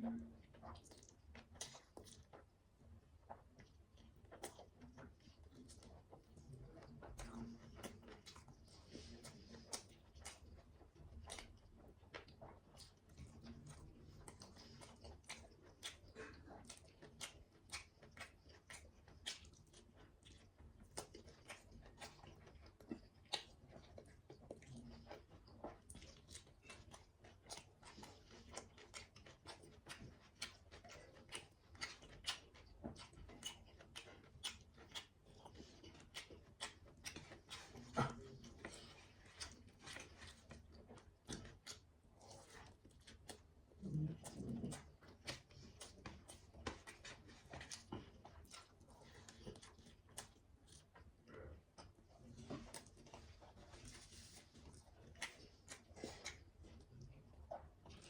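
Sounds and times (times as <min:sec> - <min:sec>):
person chewing: 0:00.6 - 0:02.5, 0:03.2 - 0:58.0.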